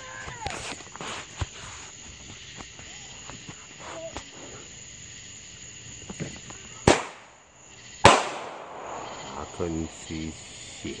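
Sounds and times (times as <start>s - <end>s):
distant voices: 0.0s - 11.0s
insects chirping: 0.0s - 11.0s.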